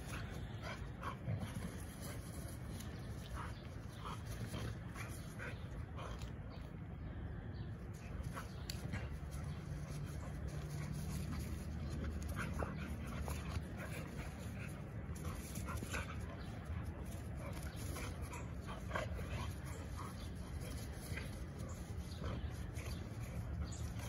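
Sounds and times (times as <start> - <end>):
dogs play-fighting: 0.0 - 24.0.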